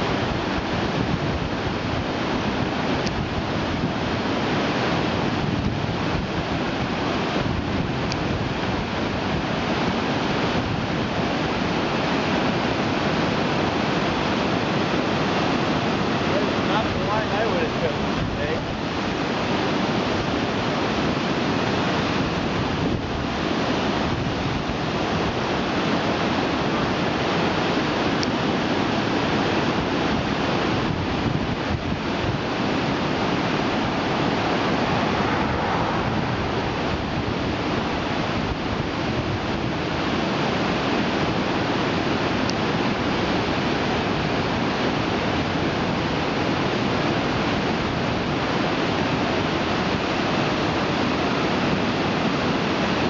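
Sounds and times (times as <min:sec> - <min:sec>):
rapids rushing over boulders: 0:00.0 - 0:53.0.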